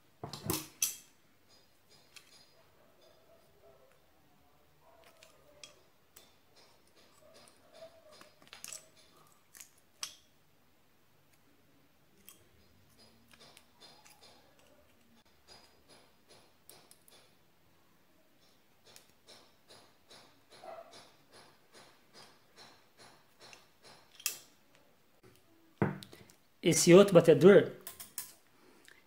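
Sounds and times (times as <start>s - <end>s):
faint metallic clicks and scrapes: 0.3s - 4.1s, 4.8s - 10.3s, 12.1s - 17.4s, 18.3s - 26.5s, 27.8s - 29.0s.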